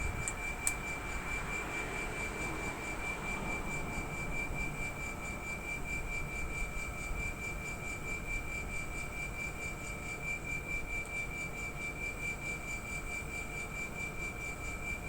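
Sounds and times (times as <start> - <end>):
compressor high-pitched whine: 0.0 - 15.0.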